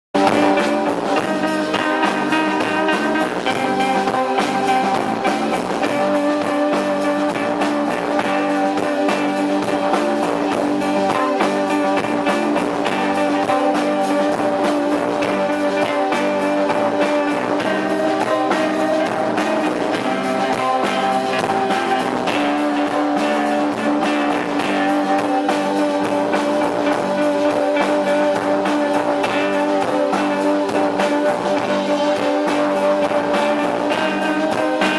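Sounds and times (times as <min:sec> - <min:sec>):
guitar chords: 0:00.2 - 0:34.9
live band playing: 0:00.2 - 0:34.9.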